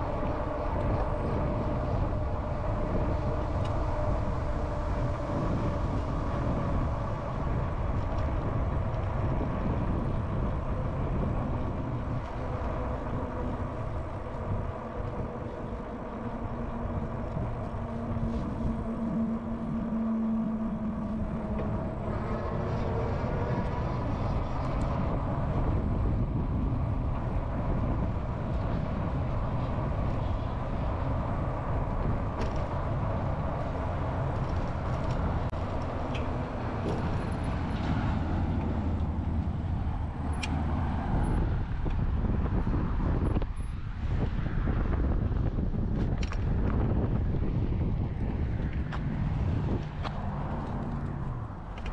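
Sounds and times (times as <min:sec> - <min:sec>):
riding rumble: 0:00.0 - 0:51.9
wind buffeting microphone: 0:00.0 - 0:51.9.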